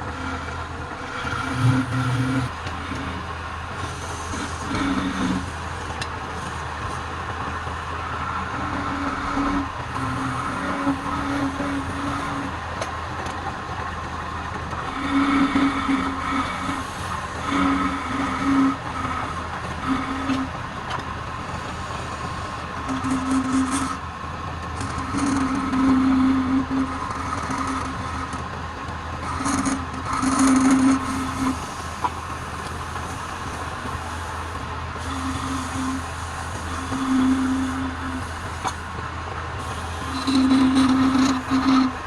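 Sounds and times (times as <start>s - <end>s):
tool cutting spinning wood: 0.0s - 42.0s
wood lathe humming: 0.0s - 42.0s.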